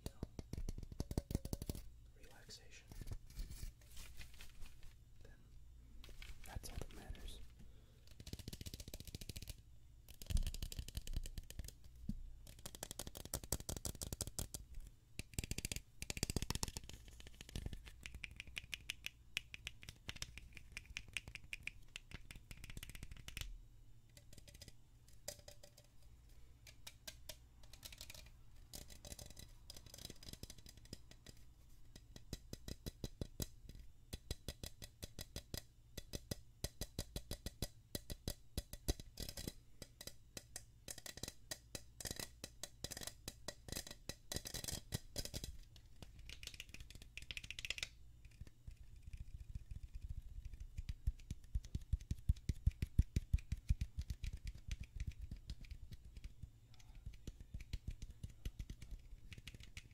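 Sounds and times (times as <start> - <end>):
fingernails tapping on a spray can: 0.2 - 1.8, 8.1 - 14.6, 15.2 - 23.5, 26.7 - 48.5, 50.0 - 59.9.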